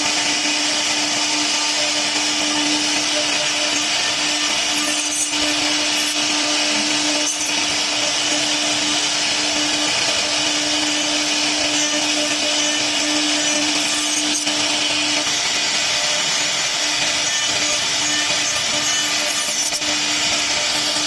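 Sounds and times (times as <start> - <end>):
hissing wood cutting: 0.0 - 21.0
router spindle hum: 0.0 - 21.0.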